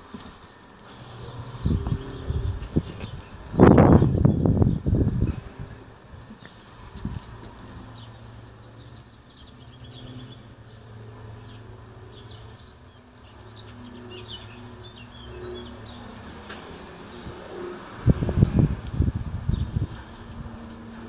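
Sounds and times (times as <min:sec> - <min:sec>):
small birds chirping: 0:00.8 - 0:21.0.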